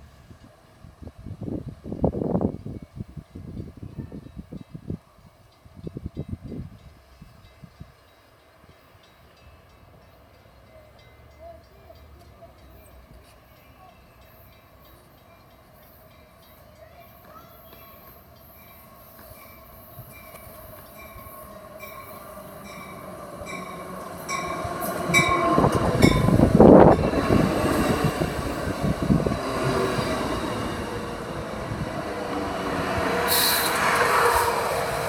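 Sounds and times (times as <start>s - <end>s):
train rolling past: 0.0s - 35.0s.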